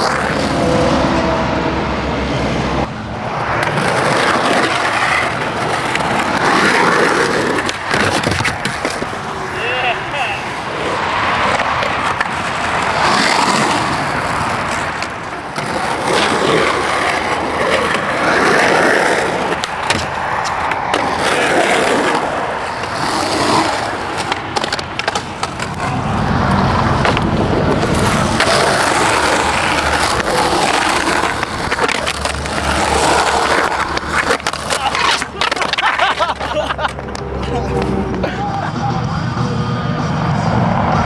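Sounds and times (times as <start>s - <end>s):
skateboard wheels rolling on concrete: 0.0s - 41.0s
skateboard clacks: 3.3s - 38.6s.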